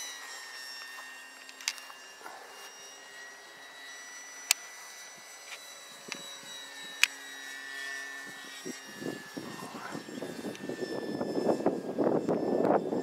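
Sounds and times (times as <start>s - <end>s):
model plane propeller whine: 0.0s - 13.0s.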